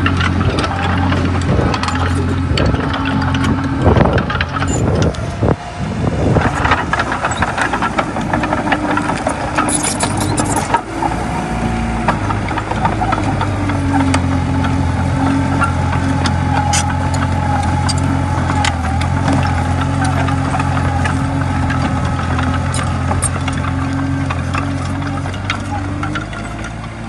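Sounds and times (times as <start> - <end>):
bulldozer diesel engine: 0.0 - 27.0
metallic clicks and rattles: 0.1 - 5.2, 6.4 - 10.9, 12.5 - 27.0.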